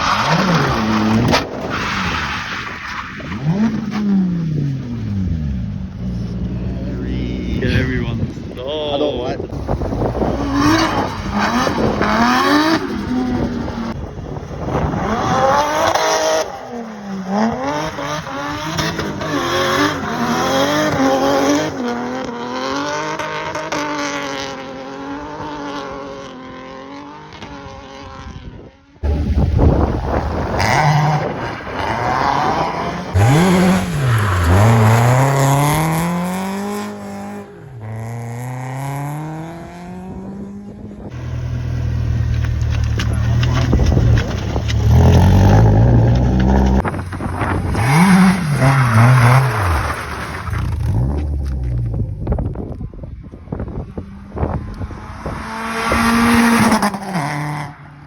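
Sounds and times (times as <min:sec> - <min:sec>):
car engines revving: 0:00.0 - 0:28.3, 0:29.0 - 0:58.0.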